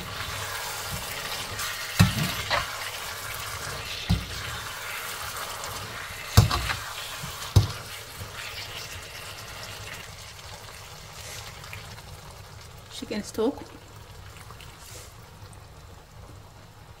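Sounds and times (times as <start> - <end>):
sauce sizzling and bubbling in a wok: 0.0 - 17.0.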